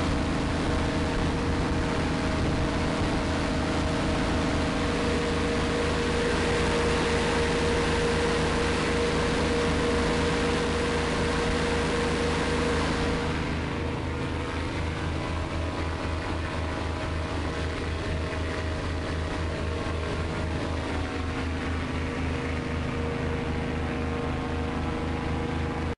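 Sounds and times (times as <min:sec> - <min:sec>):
hovercraft engine pulsing drone: 0:00.0 - 0:25.9.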